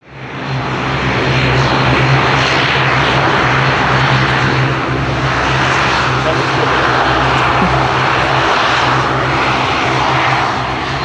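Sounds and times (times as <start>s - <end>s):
airliner engines running: 0.0s - 11.0s.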